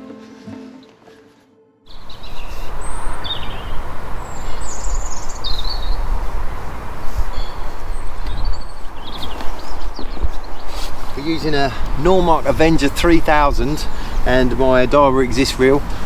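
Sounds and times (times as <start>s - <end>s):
river rushing with low rumble: 1.9s - 16.0s
small birds chirping: 1.9s - 16.0s.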